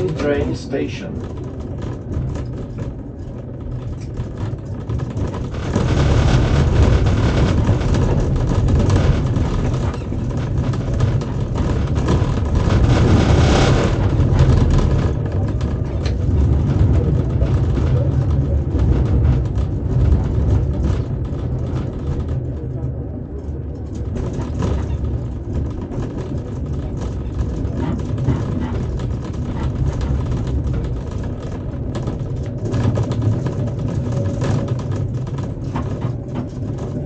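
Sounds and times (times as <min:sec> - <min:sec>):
tram rumbling on rails: 0:00.0 - 0:37.0.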